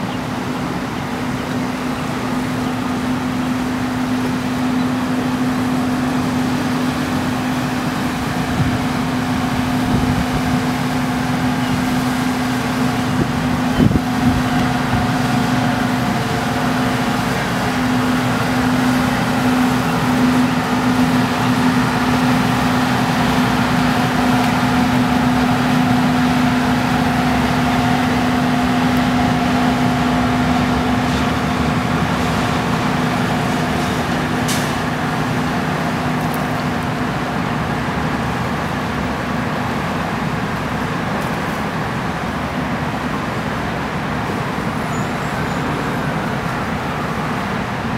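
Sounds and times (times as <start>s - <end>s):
diesel engine droning: 0.0s - 47.9s
water rushing along hull: 0.0s - 47.9s.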